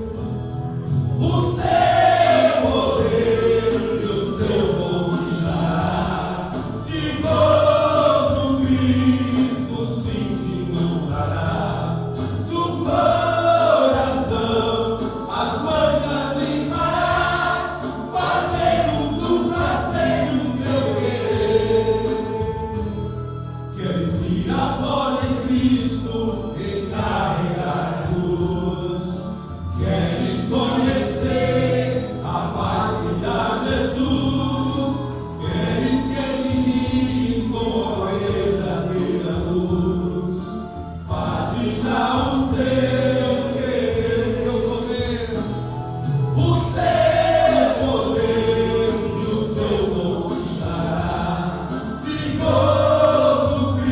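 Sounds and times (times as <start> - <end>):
instrumental backing: 0.0 - 53.9
men's choir singing a hymn: 0.0 - 53.9.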